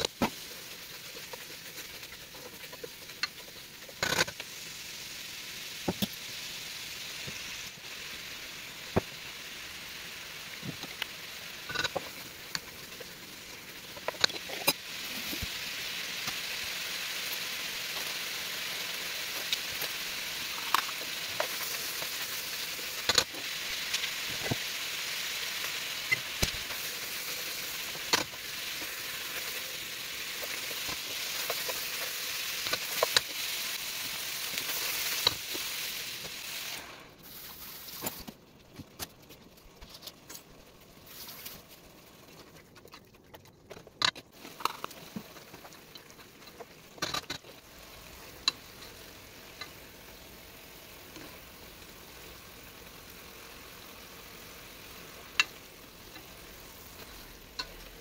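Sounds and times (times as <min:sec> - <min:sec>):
vegetables sizzling in a pot: 0:00.0 - 0:42.8, 0:43.8 - 0:58.0.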